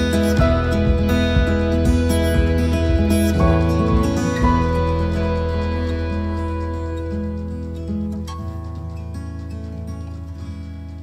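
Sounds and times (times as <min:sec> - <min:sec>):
gentle plucked guitar music: 0:00.0 - 0:11.0.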